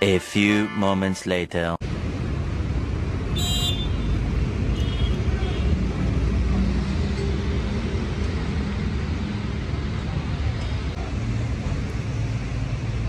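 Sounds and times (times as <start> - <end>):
traffic rumble: 1.8 - 13.0.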